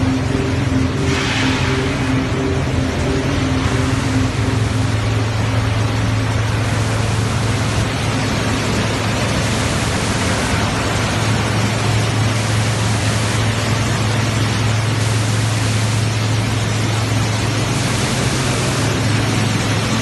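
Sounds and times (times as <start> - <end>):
loud machinery noise: 0.0 - 20.0
low hum: 0.0 - 20.0.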